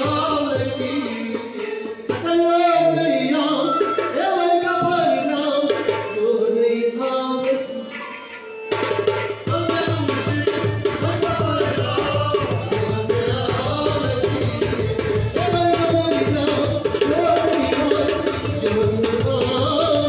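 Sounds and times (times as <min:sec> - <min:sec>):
harmonium: 0:00.0 - 0:20.0.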